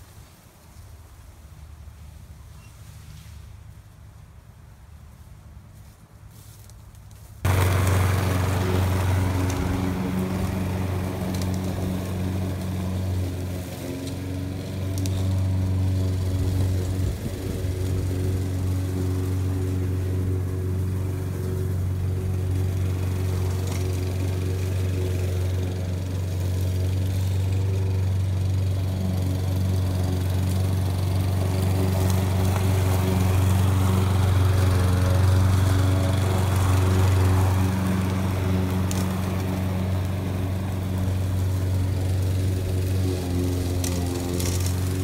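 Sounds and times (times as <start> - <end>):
lawn mower cutting grass: 7.4 - 45.0.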